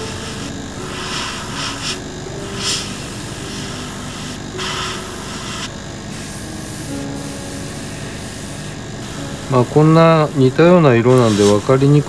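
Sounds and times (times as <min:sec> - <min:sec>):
airbrush spraying hiss: 0:00.0 - 0:12.0
steady background drone: 0:00.0 - 0:12.0.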